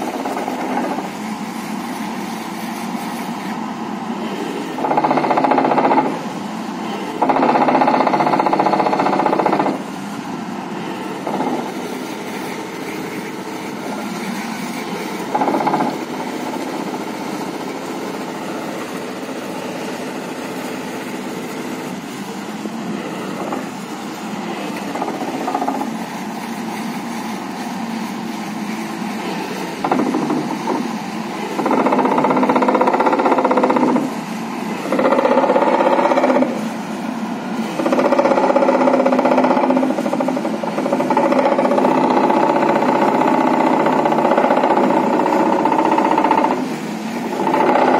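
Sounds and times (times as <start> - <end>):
vibratory pile driver buzzing: 0.0 - 1.3, 4.5 - 9.9, 10.7 - 22.2, 22.8 - 26.0, 29.2 - 36.7, 37.6 - 47.9
excavator engine: 0.0 - 47.9.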